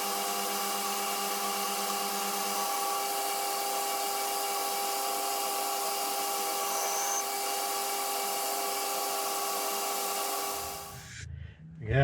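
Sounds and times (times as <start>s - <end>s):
metal lathe motor and gear whine: 0.0s - 10.9s.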